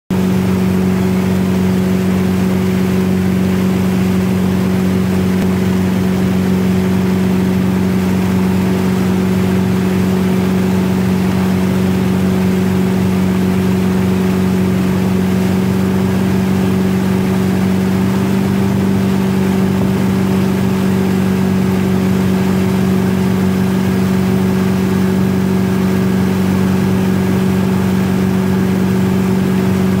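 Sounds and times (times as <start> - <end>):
boat engine droning: 0.1 - 30.0
rushing water of wake: 0.1 - 30.0.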